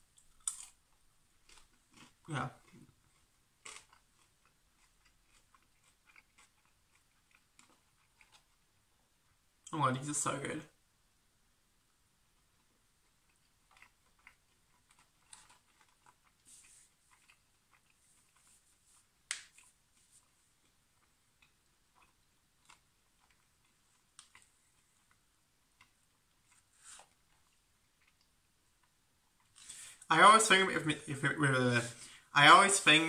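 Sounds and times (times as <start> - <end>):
faint chewing of fries: 0.0 - 10.8, 11.8 - 33.0.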